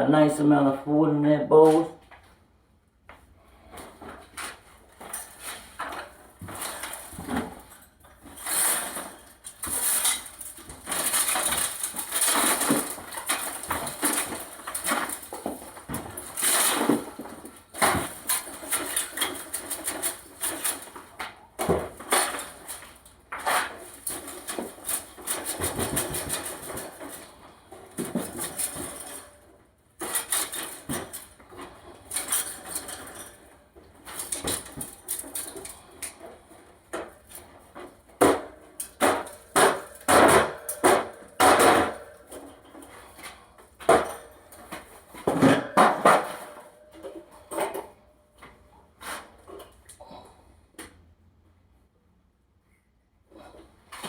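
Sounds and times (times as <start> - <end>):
objects knocking and clattering: 3.1 - 48.7.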